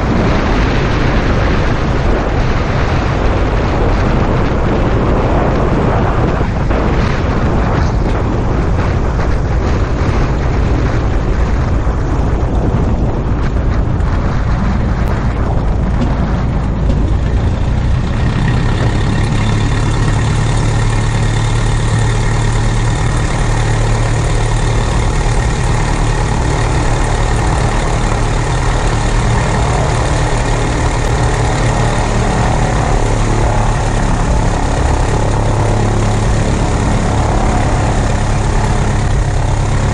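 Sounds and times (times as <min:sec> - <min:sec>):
propeller plane engine humming: 0:00.0 - 0:39.9.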